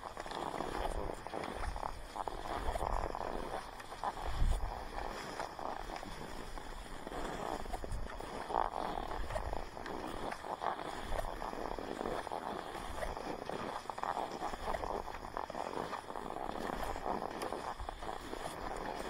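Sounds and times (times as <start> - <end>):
skis swishing on snow: 0.0 - 19.0
steady low rumble: 0.0 - 19.0.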